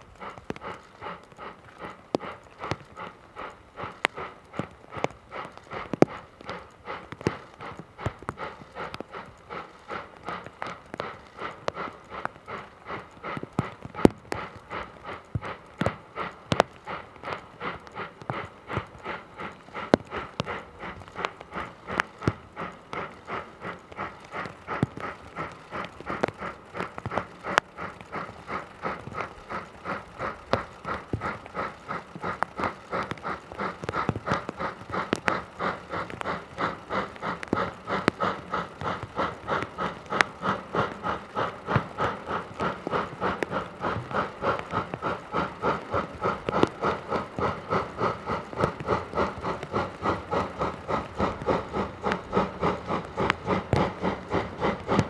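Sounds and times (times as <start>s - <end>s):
steam hiss: 0.0s - 55.0s
steam locomotive chuffing: 0.0s - 55.0s.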